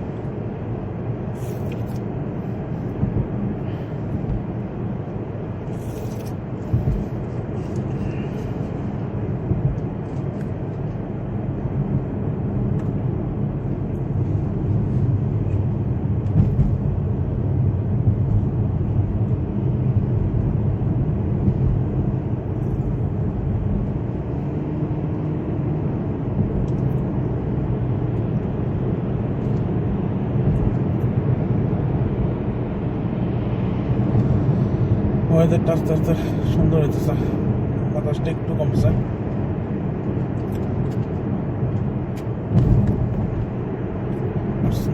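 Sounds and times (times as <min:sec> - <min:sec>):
car interior rumble: 0:00.0 - 0:44.9.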